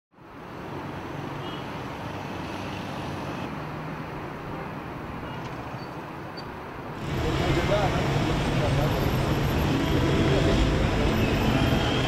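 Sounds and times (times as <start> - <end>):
city traffic noise: 0.1 - 12.0.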